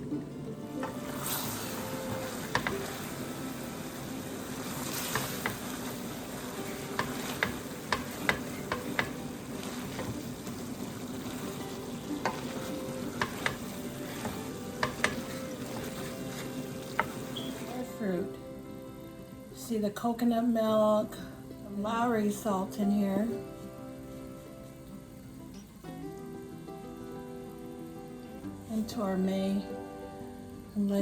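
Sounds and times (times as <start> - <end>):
steady hum: 0.0 - 30.9
food sizzling in a pan: 0.6 - 20.0, 20.9 - 31.0.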